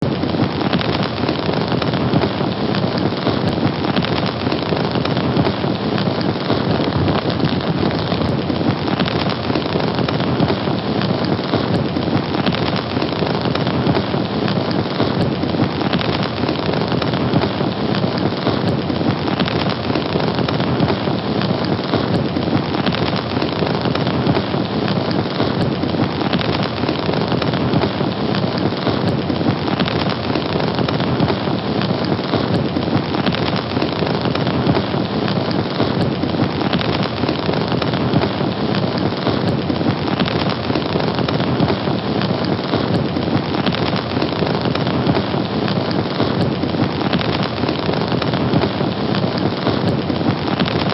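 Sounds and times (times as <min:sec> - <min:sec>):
fire crackling: 0:00.0 - 0:50.9.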